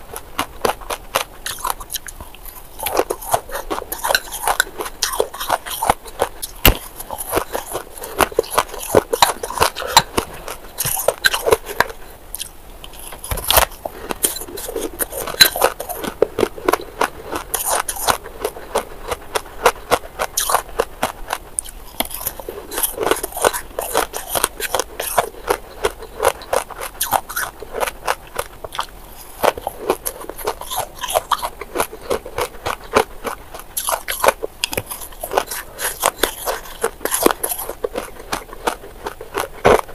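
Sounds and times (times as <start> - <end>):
shaved ice being chewed: 0.0 - 39.9.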